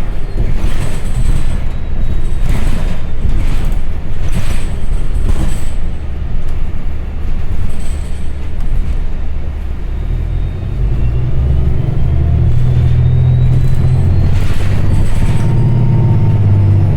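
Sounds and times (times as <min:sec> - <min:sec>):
brief clatters: 0:00.0 - 0:09.4, 0:12.0 - 0:16.9
bus engine and road rumble: 0:00.0 - 0:16.9.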